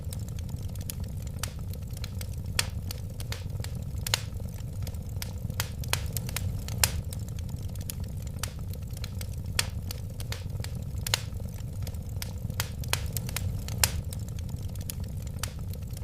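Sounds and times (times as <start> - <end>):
fire crackling and popping: 0.0 - 16.0
wood fire flames rushing: 0.0 - 16.0.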